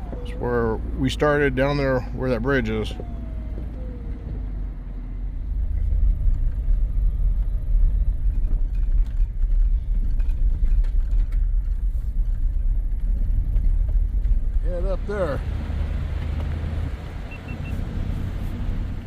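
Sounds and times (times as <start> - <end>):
off-road vehicle engine rumble: 0.0 - 19.0.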